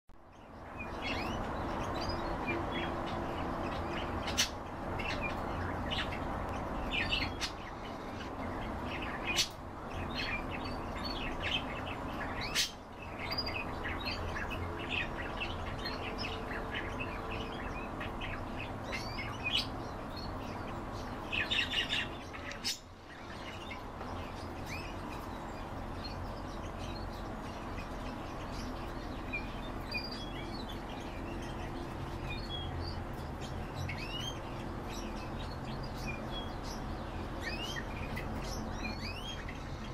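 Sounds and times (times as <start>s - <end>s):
birds chirping and twittering: 0.2s - 39.9s.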